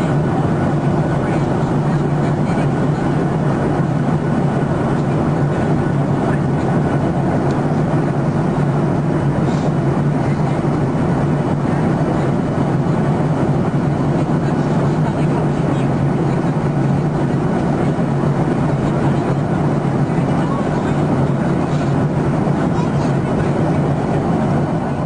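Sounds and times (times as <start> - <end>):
airliner cabin engine hum: 0.0 - 25.0.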